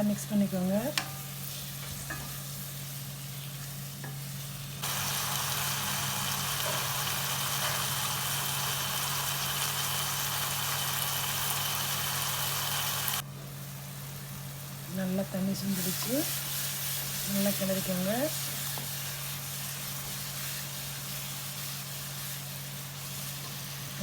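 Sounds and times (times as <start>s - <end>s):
masala sizzling in oil: 0.0s - 24.0s.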